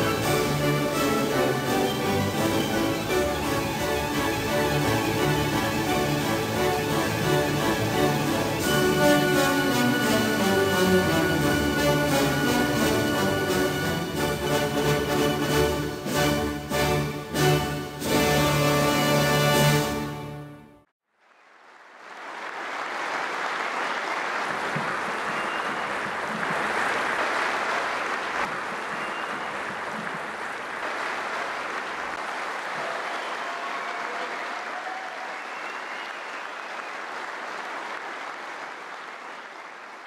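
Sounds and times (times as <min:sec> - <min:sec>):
audience applauding: 0:00.0 - 0:16.3, 0:21.3 - 0:40.0.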